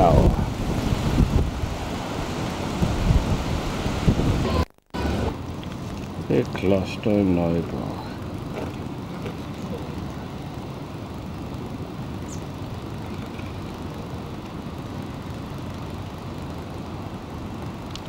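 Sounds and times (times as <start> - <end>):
low outdoor background noise: 0.0 - 18.0.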